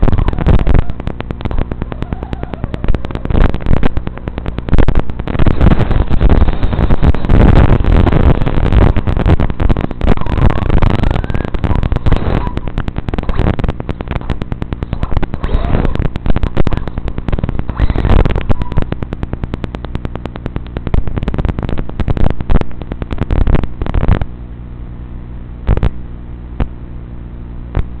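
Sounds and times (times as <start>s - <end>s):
low electrical buzz: 0.0s - 28.0s
radio crackling and clicking: 0.0s - 28.0s.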